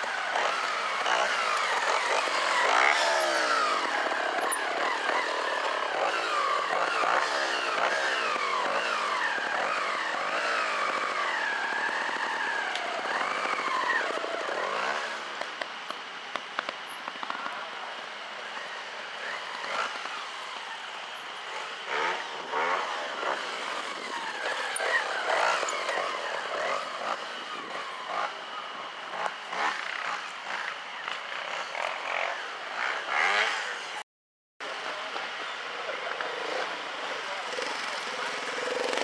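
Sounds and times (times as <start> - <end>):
motorcycle engine revving: 0.0 - 15.9, 16.8 - 34.0, 34.9 - 39.0.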